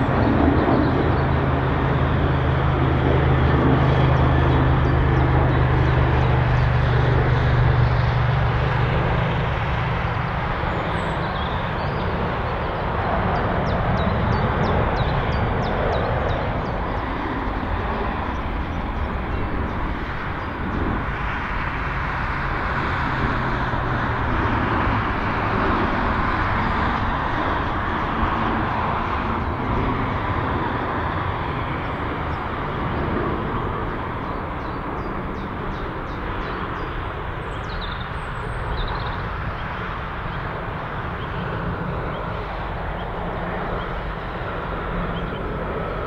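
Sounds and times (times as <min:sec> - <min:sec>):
jet engines rumbling: 0:00.0 - 0:46.0.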